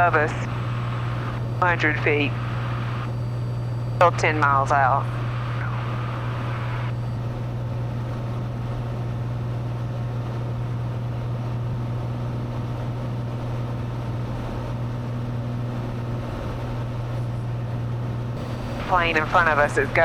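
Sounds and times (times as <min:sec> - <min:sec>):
propeller plane engine droning: 0:00.0 - 0:20.0.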